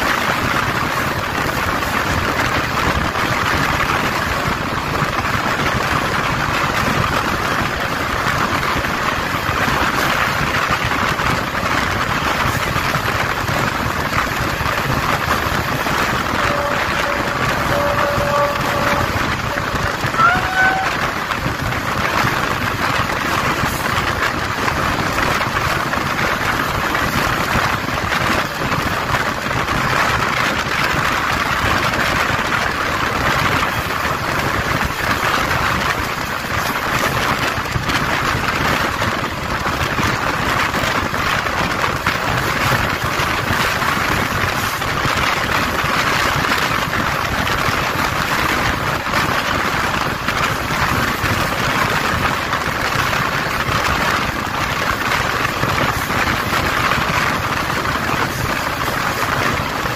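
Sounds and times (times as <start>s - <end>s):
train wheels on rail: 0.0s - 59.9s.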